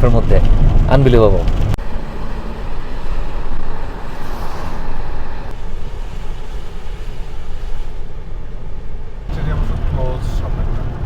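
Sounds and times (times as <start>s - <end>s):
tyre noise on wet road: 0.0s - 11.0s.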